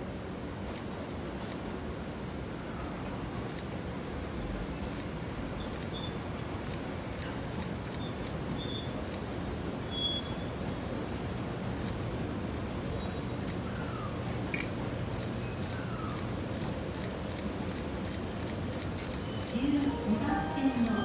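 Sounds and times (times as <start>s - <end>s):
high brake squeal: 0.0s - 3.2s, 4.3s - 21.0s
train rumble: 0.0s - 21.0s.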